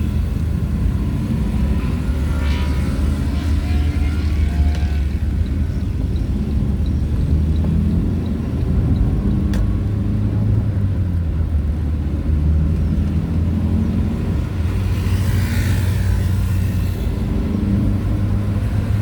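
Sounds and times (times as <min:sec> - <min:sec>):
vehicle engine drone: 0:00.0 - 0:19.0.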